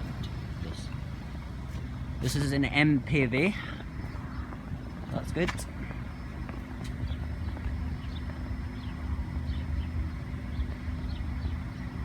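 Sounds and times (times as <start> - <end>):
constant low hum: 0.0 - 12.0
diesel rumble: 0.0 - 12.0.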